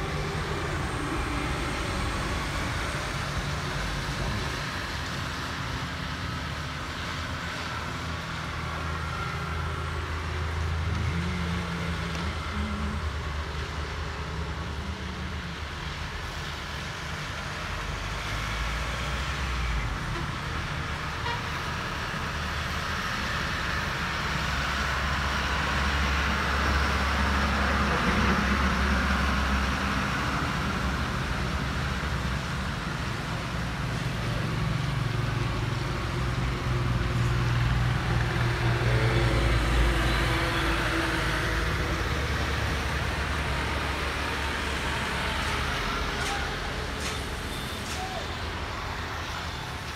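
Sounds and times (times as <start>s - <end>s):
truck engine passing close: 0.0s - 49.9s
tyres hissing on wet road: 0.0s - 49.9s
vehicle engines in traffic: 0.0s - 49.9s.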